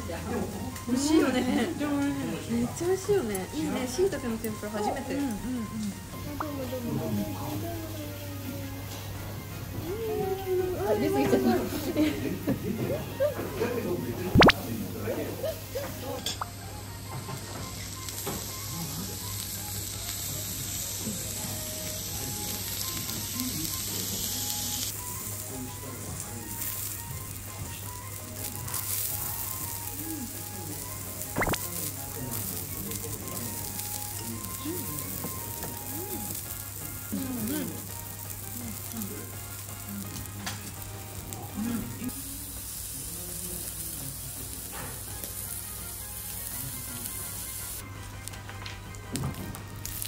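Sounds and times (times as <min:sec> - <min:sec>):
faint background music: 0:00.0 - 0:50.0
meat sizzling on grill plate: 0:00.0 - 0:50.0.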